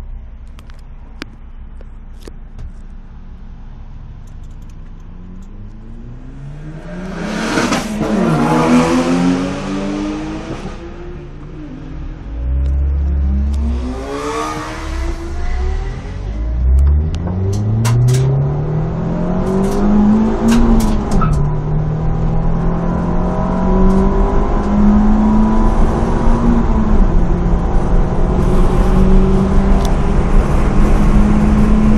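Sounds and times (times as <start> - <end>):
car engine accelerating: 3.9 - 31.9.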